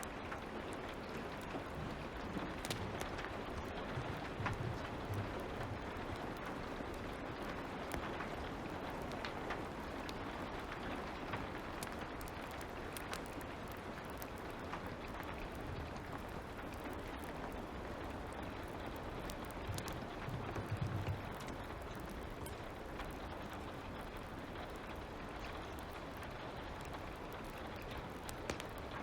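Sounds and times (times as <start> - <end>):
fire crackling and popping: 0.0 - 29.0
light rain hiss: 0.0 - 29.0.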